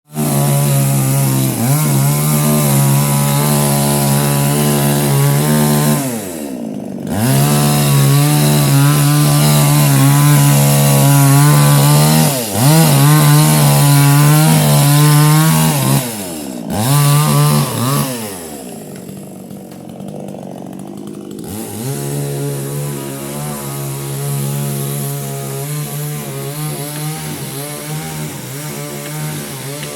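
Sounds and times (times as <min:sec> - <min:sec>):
chainsaw revving: 0:00.1 - 0:29.9.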